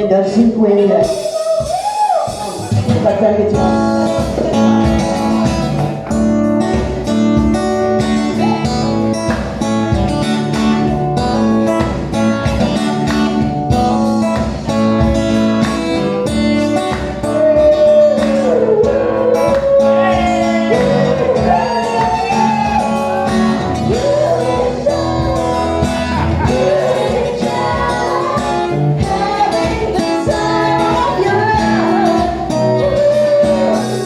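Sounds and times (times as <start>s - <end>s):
strummed guitars: 0.0s - 34.0s
band playing: 0.9s - 34.0s.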